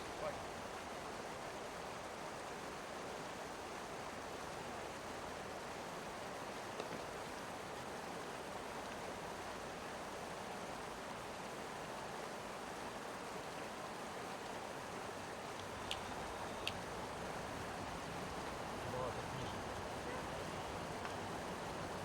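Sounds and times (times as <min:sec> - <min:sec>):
mountain river rushing: 0:00.0 - 0:22.0.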